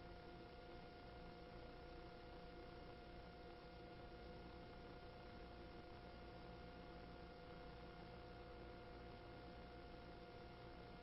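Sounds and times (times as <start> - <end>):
faint steady hiss: 0.0 - 11.0
thin steady hum: 0.0 - 11.0.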